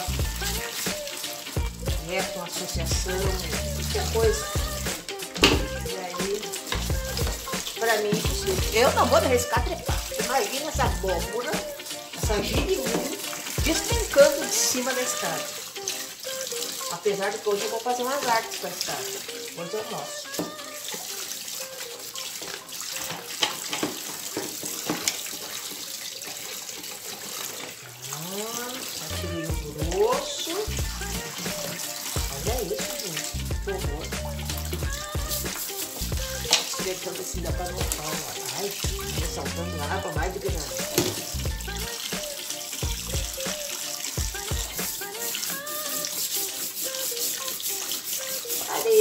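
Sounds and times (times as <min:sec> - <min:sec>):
background music: 0:00.0 - 0:49.0
scrubbing strokes: 0:00.0 - 0:49.0
tap water running into sink: 0:00.0 - 0:49.0.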